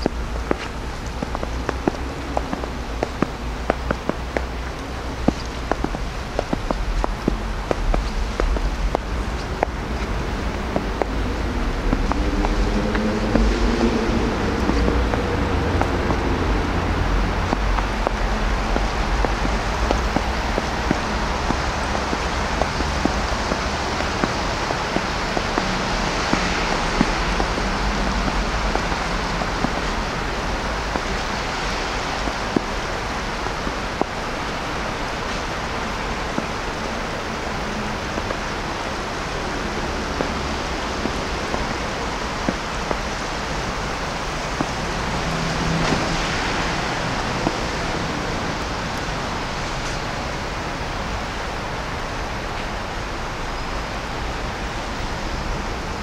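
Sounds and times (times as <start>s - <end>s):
city street hiss in wet snow: 0.0s - 56.0s.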